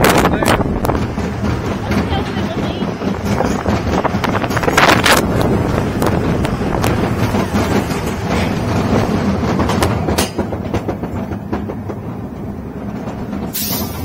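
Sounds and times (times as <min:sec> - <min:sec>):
roller coaster wheels rumbling: 0:00.0 - 0:14.0
sharp clacks over track: 0:00.0 - 0:14.0.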